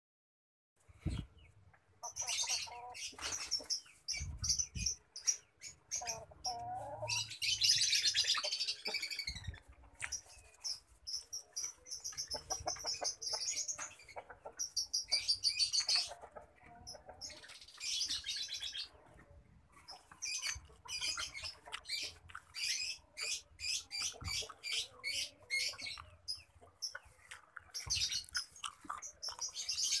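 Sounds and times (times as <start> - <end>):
small birds chirping: 0.8 - 30.0.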